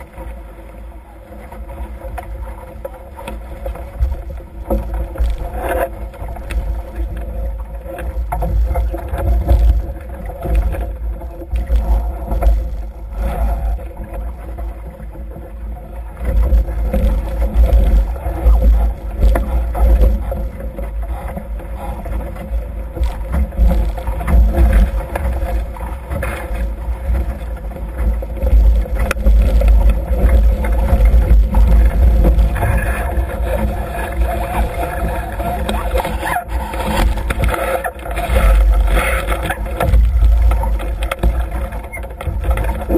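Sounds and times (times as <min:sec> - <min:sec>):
water rushing past hulls: 0:00.0 - 0:42.9.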